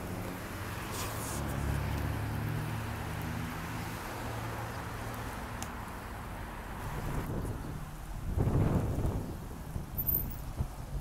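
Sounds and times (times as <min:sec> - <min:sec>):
street traffic: 0:00.0 - 0:11.0
vehicle engine humming: 0:00.0 - 0:11.0.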